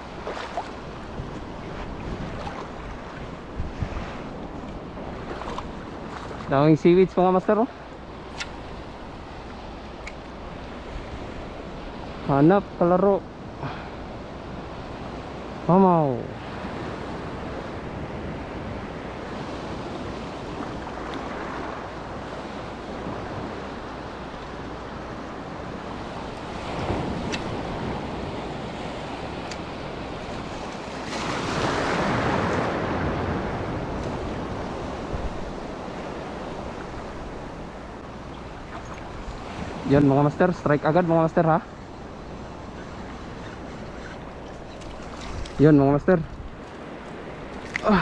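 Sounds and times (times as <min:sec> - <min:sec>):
wind on microphone: 0:00.0 - 0:07.1, 0:16.3 - 0:48.0
water lapping over reef: 0:00.0 - 0:12.3, 0:19.0 - 0:48.0.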